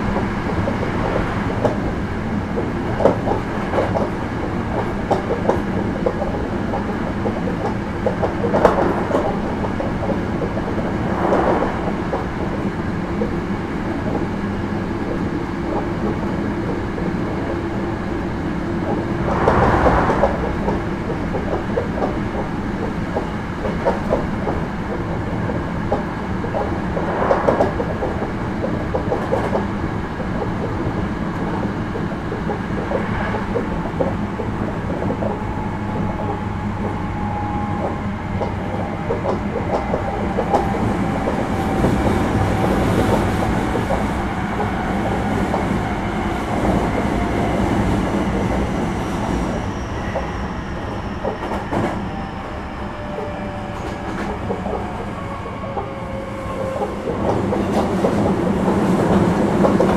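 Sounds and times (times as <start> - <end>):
rail joint clicks: 0.0 - 59.9
train wheels rumbling on rails: 0.0 - 59.9.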